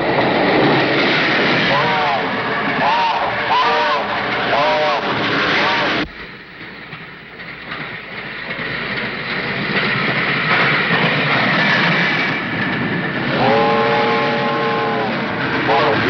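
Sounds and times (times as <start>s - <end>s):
train clattering on rails: 0.0s - 16.0s.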